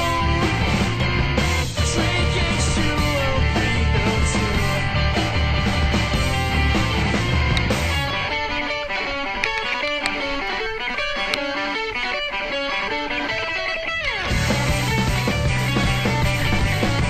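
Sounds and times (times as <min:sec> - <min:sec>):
electric guitar picking melody: 0:00.0 - 0:17.0
rock music: 0:00.0 - 0:17.0.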